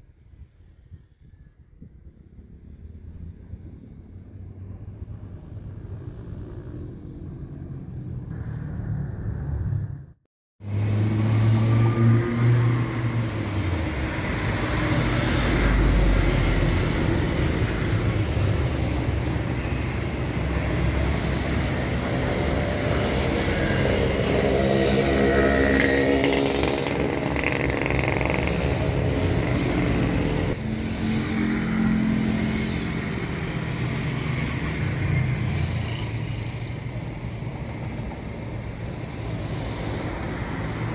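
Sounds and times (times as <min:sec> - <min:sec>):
jet and vehicle engine noise: 0:00.1 - 0:40.9.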